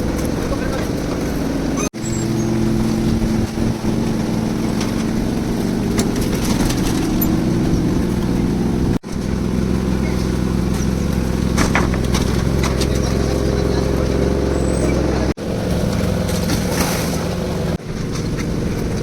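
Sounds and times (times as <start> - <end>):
concrete mixer engine running: 0.0 - 19.0.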